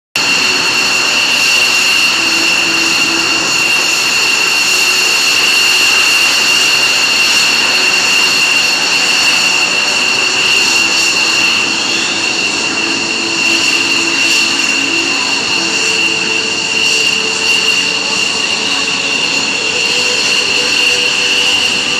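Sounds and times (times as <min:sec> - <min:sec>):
jet engines whining and roaring: 0:00.1 - 0:21.9.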